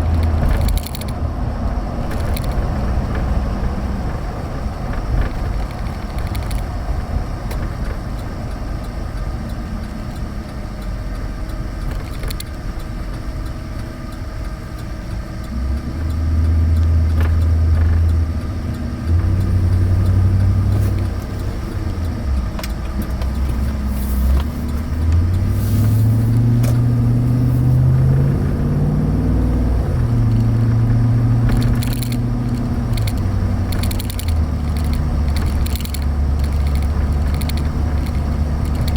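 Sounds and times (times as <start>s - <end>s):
car engine accelerating: 0.0s - 38.9s
road rumble: 0.0s - 38.9s.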